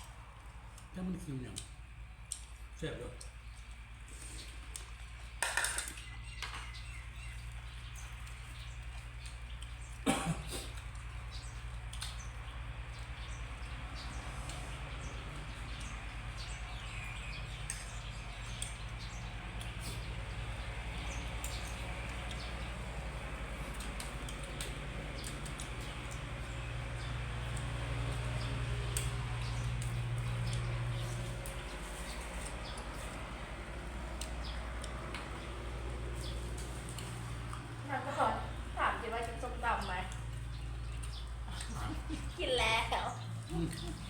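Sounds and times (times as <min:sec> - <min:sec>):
small clicks and chewing: 0:00.0 - 0:44.0.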